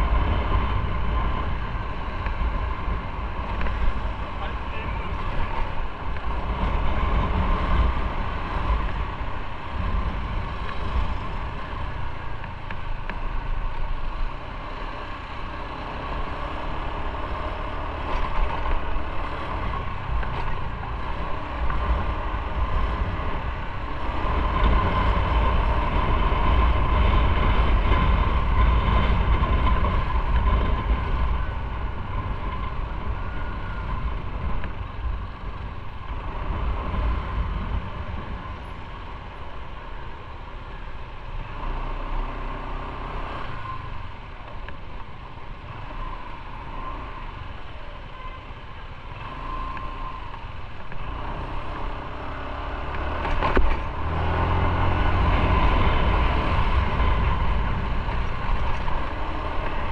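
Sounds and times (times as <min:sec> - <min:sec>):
motorcycle engine: 0:00.0 - 0:59.9
wind rumble on microphone: 0:00.0 - 0:59.9.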